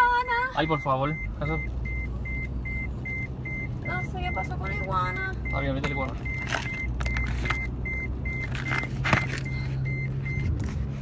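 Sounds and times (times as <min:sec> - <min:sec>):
car warning chime beeping: 0:00.0 - 0:10.6
car engine humming: 0:00.0 - 0:11.0.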